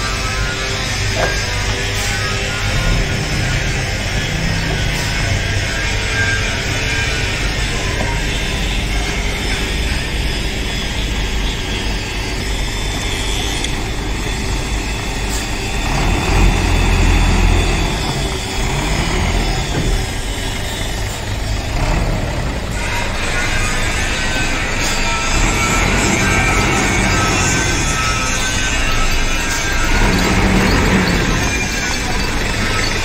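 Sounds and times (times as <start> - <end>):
diesel truck engine running: 0.0 - 33.0.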